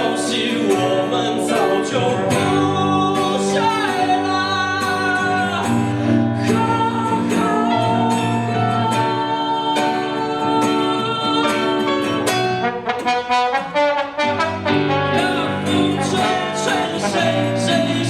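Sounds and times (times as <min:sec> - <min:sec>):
held melody line: 0:00.0 - 0:18.0
strummed guitar: 0:00.0 - 0:18.0.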